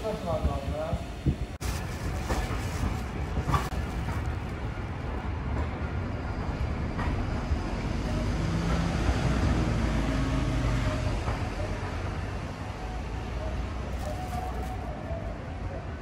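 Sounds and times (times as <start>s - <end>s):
streetcar rumbling on tracks: 0.0s - 16.0s.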